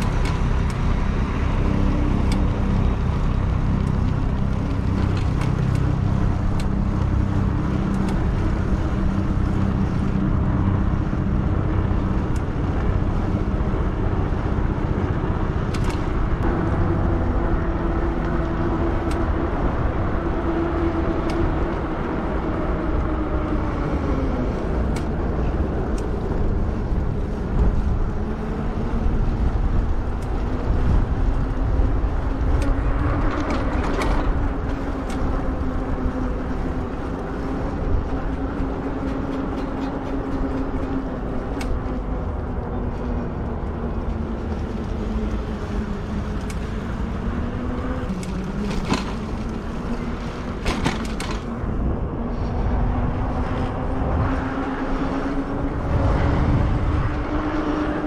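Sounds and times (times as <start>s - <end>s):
road noise from bike tyres: 0.0s - 58.0s
wind noise: 0.0s - 58.0s.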